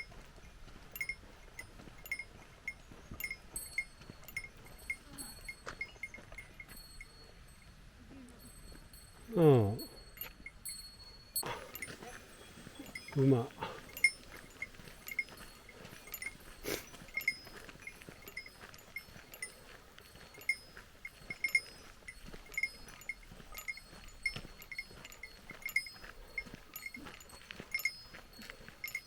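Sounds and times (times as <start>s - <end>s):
small metal bell jingling: 0.0s - 29.0s.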